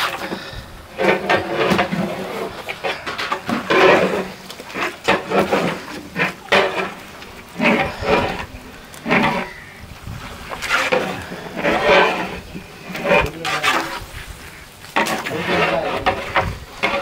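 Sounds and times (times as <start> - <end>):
metal spatula scraping a pot: 0.0 - 9.8, 10.5 - 17.0.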